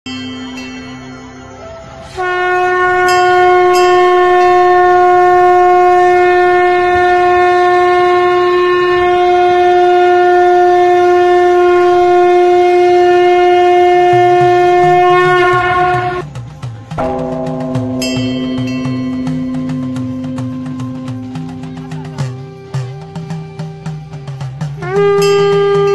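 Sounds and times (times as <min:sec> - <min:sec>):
conch shell blast: 0:02.0 - 0:16.2, 0:17.0 - 0:24.2, 0:24.8 - 0:25.9.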